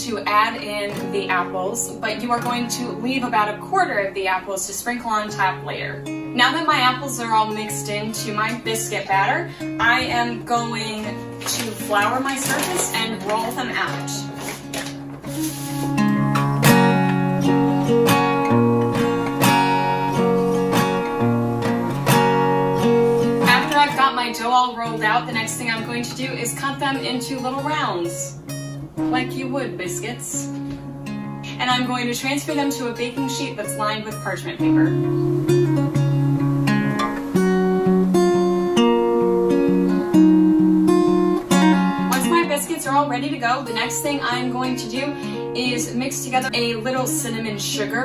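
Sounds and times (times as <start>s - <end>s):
acoustic guitar strumming chords: 0.0s - 48.0s.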